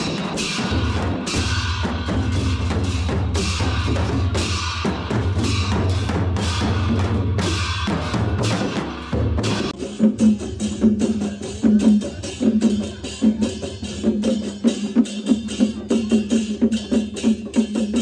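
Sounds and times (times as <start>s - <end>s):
drums beaten in driving rhythm: 0.0s - 18.0s
hand cymbal crashes: 0.0s - 18.0s.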